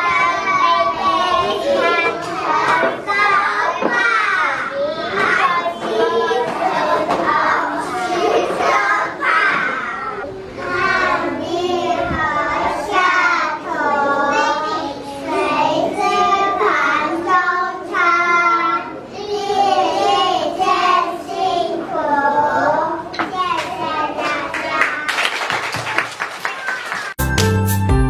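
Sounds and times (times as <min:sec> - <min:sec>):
children chanting a rhyme: 0:00.0 - 0:25.3.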